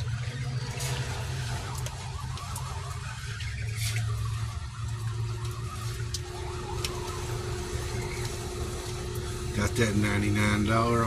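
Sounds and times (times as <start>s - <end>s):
thin steady whine: 0.0s - 11.0s.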